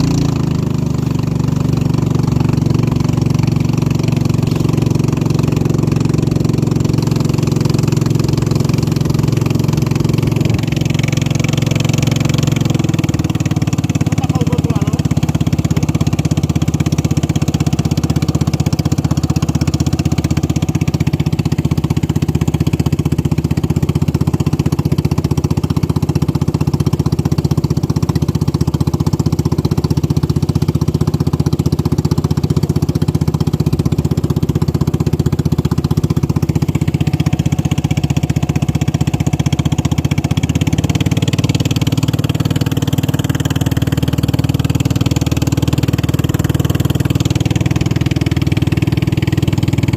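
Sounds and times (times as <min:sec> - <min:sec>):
racing boat engine droning: 0:00.0 - 0:49.9.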